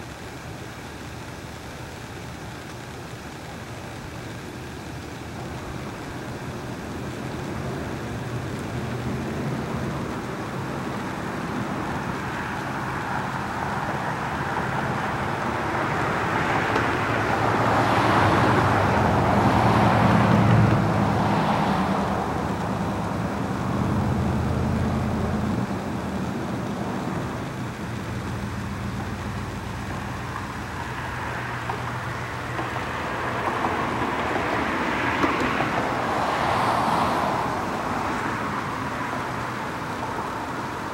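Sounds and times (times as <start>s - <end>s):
passing motor vehicles: 5.8s - 40.9s.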